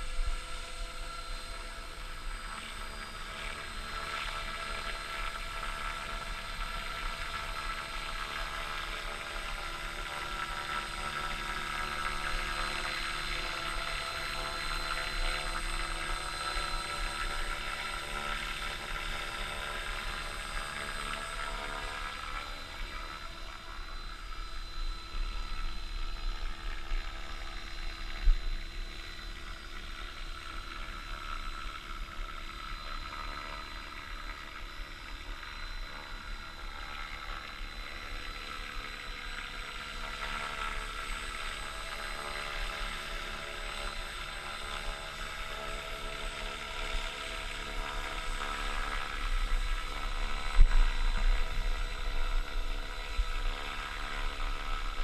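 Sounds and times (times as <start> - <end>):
model helicopter rotor whine: 0.0 - 55.0.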